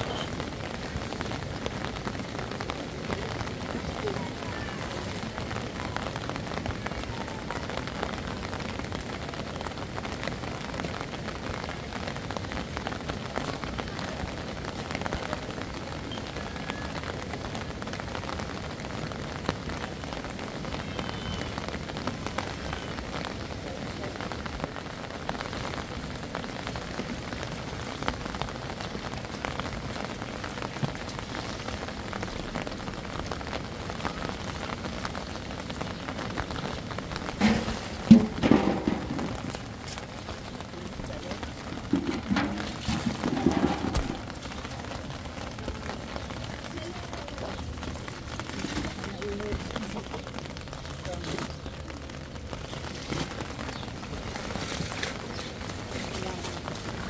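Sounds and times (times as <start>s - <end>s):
water drops pattering and splashing: 0.0s - 57.0s.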